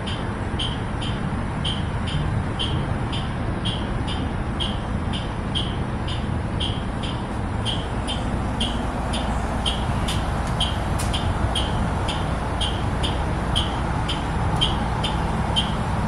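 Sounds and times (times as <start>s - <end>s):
bus cabin rumble and hum: 0.0s - 16.0s.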